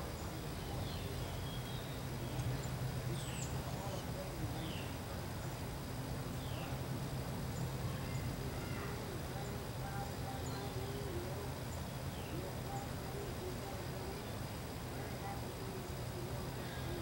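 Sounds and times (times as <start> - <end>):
faint bird chirps: 0.0 - 6.8, 7.5 - 17.0
steady low hum: 0.0 - 17.0.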